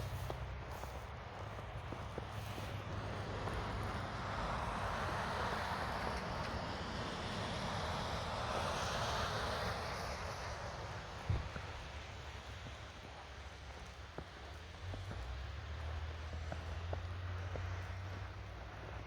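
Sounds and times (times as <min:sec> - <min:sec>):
vehicle passing by: 0:01.8 - 0:13.1, 0:14.5 - 0:19.0.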